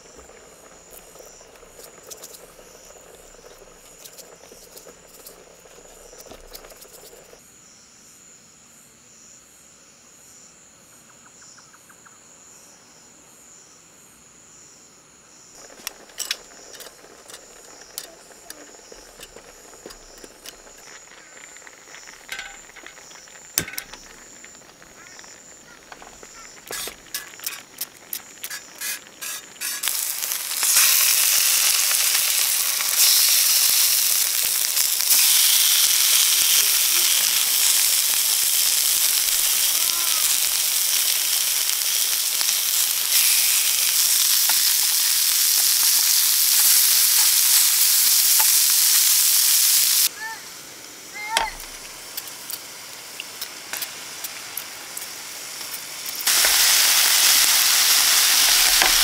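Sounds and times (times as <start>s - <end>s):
frying sizzle: 0.0s - 7.4s, 15.6s - 59.0s
pops and crackles: 0.0s - 7.4s, 15.6s - 50.1s, 51.3s - 59.0s
insects chirping: 0.0s - 59.0s.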